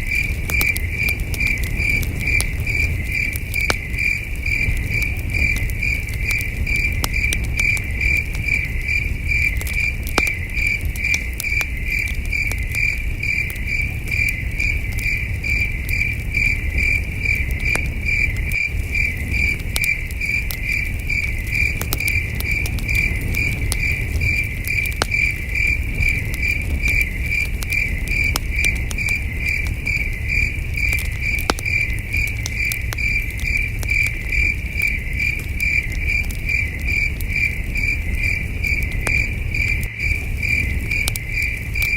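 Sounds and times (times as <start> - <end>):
campfire crackling: 0.0 - 41.9
crickets chirping: 0.0 - 41.9.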